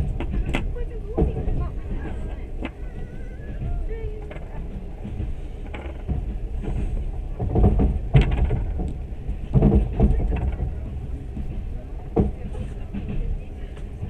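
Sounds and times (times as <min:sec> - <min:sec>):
low train rumble: 0:00.0 - 0:14.0
train clatter: 0:00.0 - 0:14.0.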